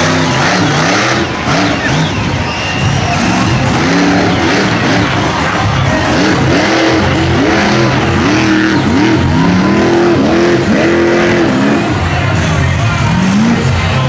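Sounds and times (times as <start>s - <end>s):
monster truck engine revving: 0.0s - 14.0s.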